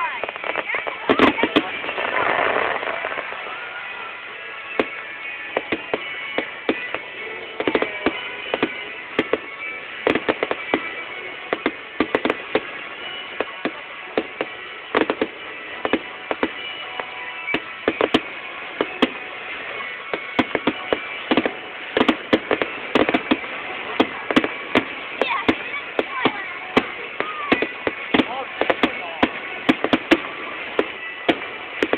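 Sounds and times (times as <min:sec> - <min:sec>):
fireworks bangs and pops: 0:00.0 - 0:31.9
steady background tones: 0:00.0 - 0:31.9.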